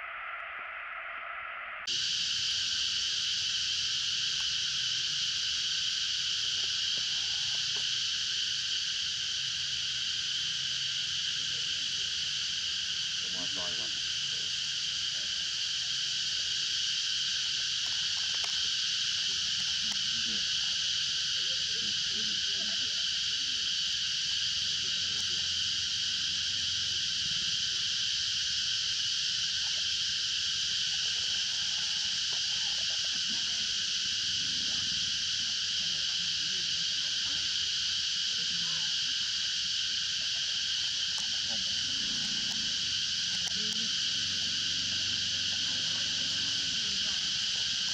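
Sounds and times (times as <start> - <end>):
insects buzzing: 1.8 - 47.9.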